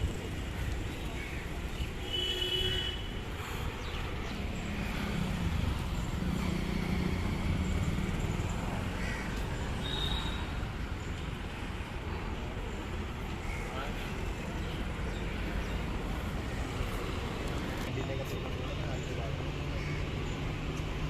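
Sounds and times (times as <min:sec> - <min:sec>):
passing vehicles rumble: 0:00.0 - 0:21.0.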